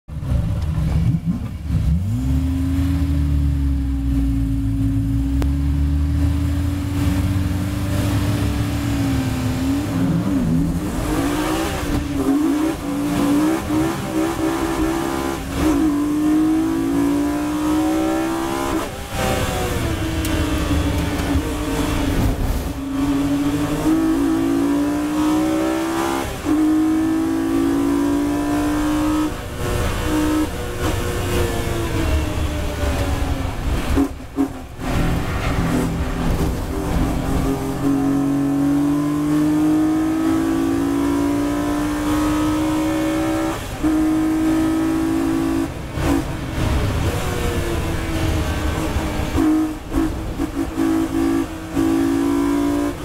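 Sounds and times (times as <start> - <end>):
race car engine revving and accelerating: 0.2 - 53.0.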